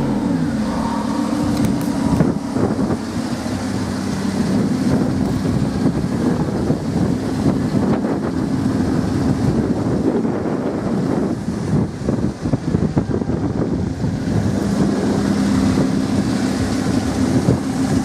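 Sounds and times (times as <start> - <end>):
car engine running steadily: 0.0 - 18.0
wind buffeting microphone: 0.0 - 18.0.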